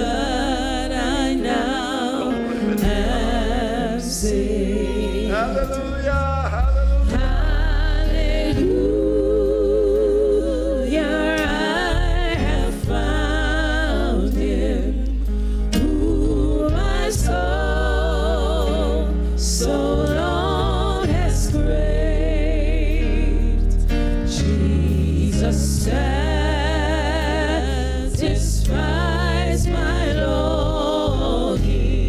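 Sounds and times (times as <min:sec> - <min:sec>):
low accompaniment notes: 0:00.0 - 0:32.0
women singing gospel: 0:00.0 - 0:32.0.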